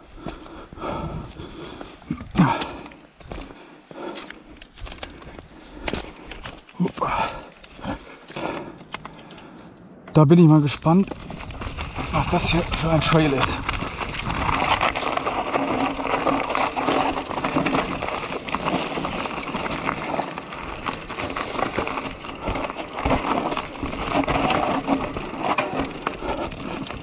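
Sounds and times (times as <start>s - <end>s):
bike rattling: 0.2s - 9.6s, 10.4s - 27.0s
tyres crunching over leaves and rocks: 2.1s - 9.0s, 10.4s - 27.0s.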